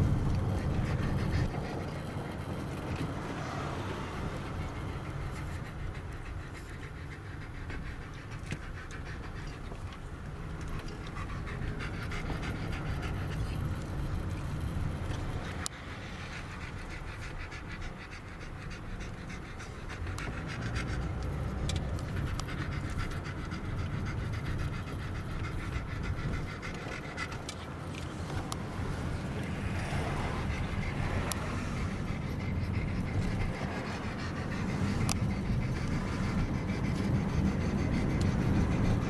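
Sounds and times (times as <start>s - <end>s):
car engine and road rumble: 0.0s - 39.0s
dog panting: 0.0s - 39.0s.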